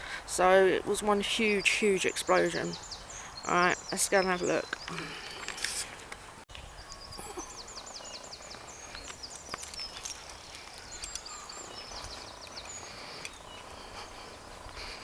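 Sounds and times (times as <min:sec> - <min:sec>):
outdoor background noise: 0:00.0 - 0:15.0
songbird singing: 0:00.0 - 0:15.0.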